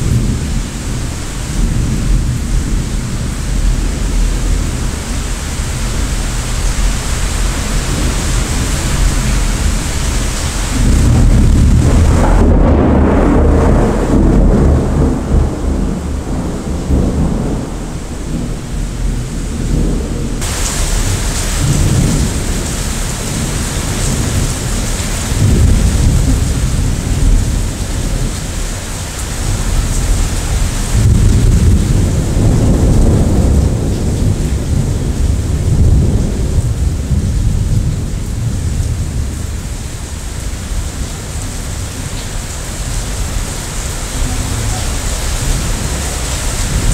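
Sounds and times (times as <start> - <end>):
heavy rain: 0.0 - 46.9
thunder rumbling: 0.0 - 46.9.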